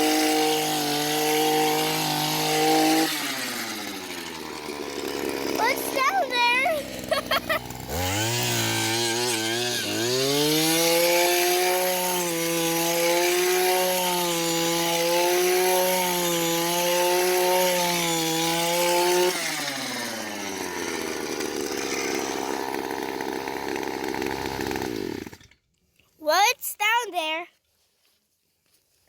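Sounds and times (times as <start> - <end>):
small petrol auger engine revving: 0.0 - 25.6.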